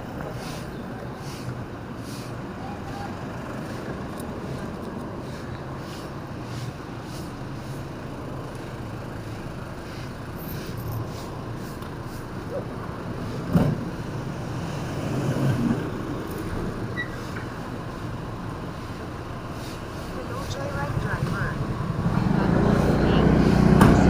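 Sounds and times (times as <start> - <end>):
street traffic and engine noise: 0.0 - 24.0.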